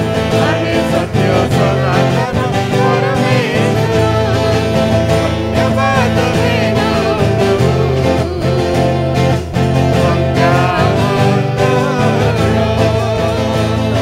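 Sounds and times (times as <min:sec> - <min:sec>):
man and woman singing together: 0:00.0 - 0:14.0
twelve-string acoustic guitar strummed: 0:00.0 - 0:14.0.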